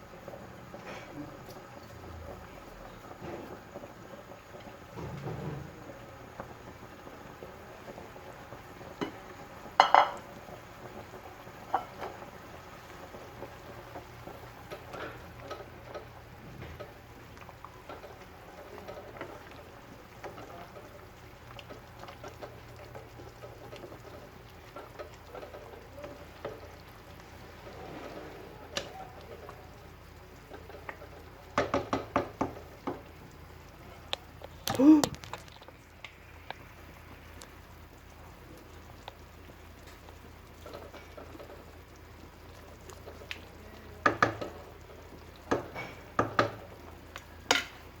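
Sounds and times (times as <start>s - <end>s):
soup bubbling in pot: 0.0s - 48.0s.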